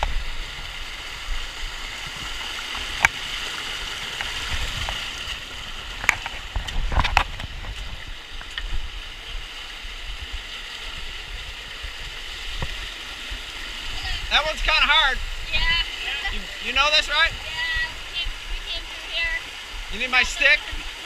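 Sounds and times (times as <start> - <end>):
water pouring over waterfall: 0.0 - 21.0.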